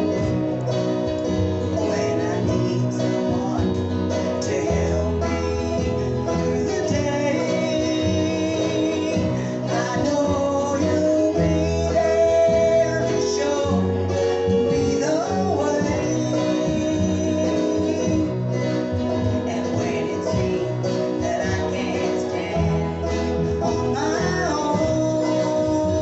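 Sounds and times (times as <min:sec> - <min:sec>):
bass line: 0:00.0 - 0:26.0
group singing: 0:00.0 - 0:26.0
guitar accompaniment: 0:00.0 - 0:26.0.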